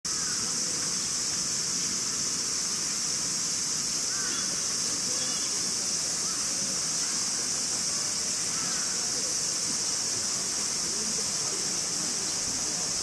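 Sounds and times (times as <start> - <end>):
cicada chorus drone: 0.1 - 13.0.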